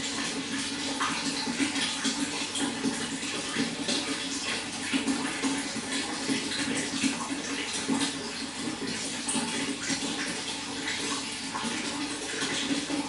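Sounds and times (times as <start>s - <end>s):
running water splashing: 0.0s - 13.0s.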